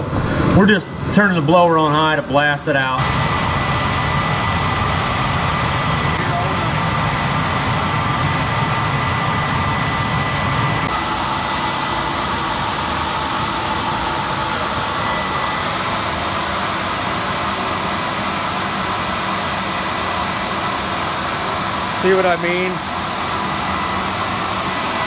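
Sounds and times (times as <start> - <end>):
blower rushing air with motor whine: 0.0 - 25.0.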